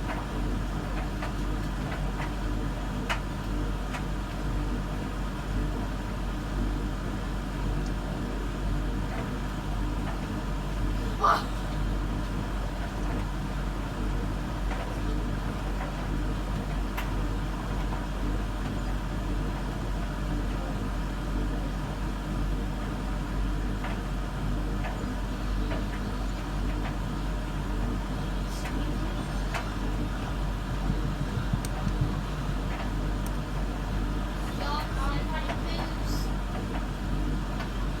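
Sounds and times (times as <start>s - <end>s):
washing machine drum humming: 0.0s - 38.0s.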